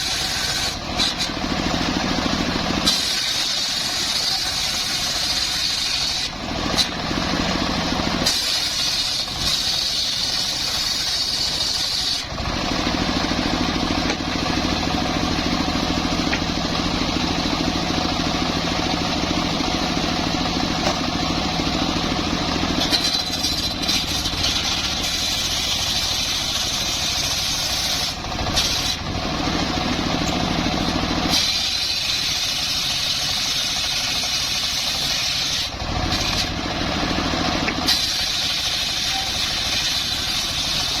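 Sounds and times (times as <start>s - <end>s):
chainsaw engine running: 0.0s - 41.0s.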